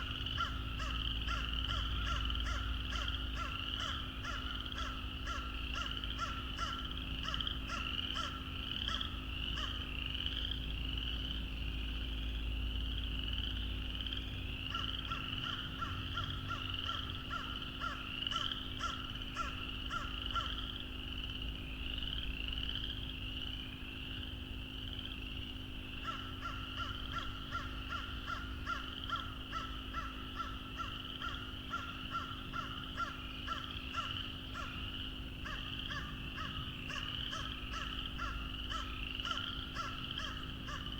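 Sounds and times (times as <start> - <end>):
chorus of frogs calling: 0.0 - 40.9.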